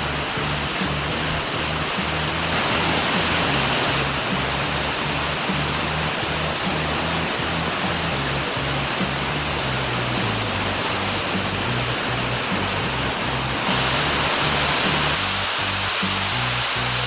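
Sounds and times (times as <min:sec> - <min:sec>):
background music with bass line: 0:00.0 - 0:17.0
heavy rain pouring: 0:00.0 - 0:17.0.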